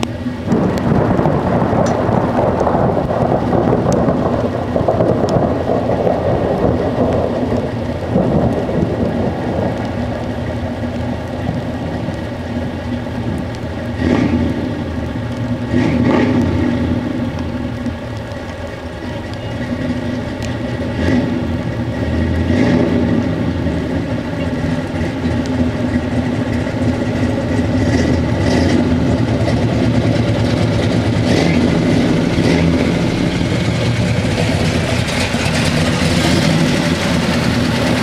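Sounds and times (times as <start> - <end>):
rain falling: 0.0 - 38.0
thunder rumbling: 0.0 - 38.0.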